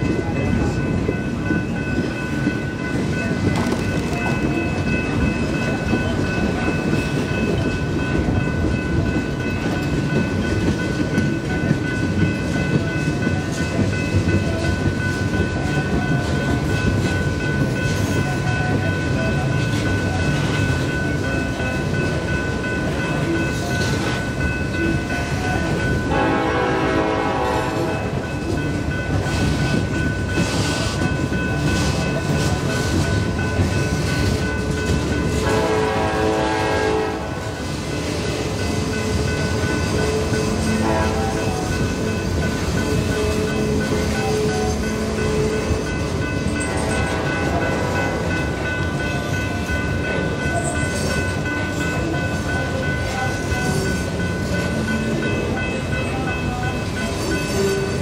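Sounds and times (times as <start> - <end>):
freight train rumbling on trestle: 0.0 - 58.0.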